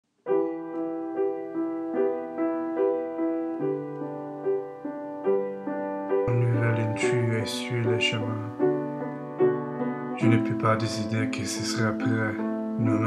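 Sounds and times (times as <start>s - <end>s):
piano melody: 0.1s - 13.0s.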